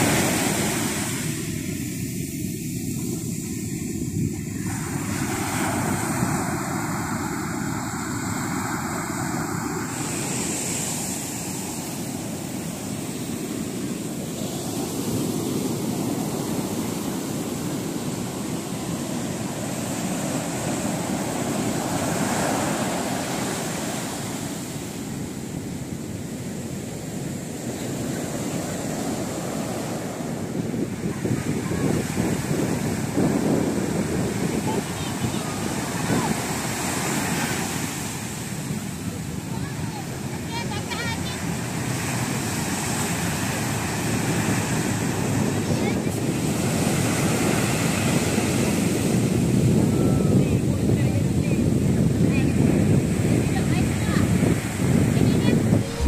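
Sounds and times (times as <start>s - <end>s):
surf breaking on shore: 0.0s - 56.0s.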